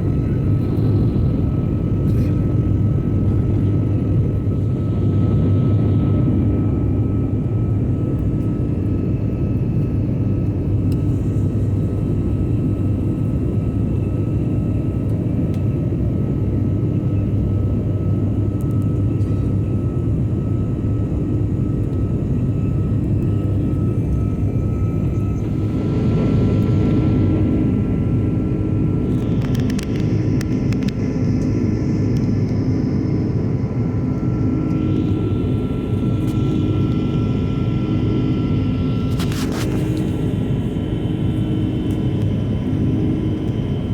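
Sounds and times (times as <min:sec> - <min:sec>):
jet cabin engine rumble: 0:00.0 - 0:43.9
thin steady whine: 0:00.0 - 0:43.9.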